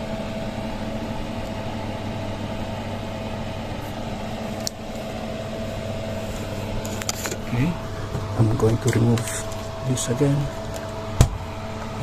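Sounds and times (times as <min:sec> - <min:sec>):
air conditioner fan hum: 0:00.0 - 0:12.0.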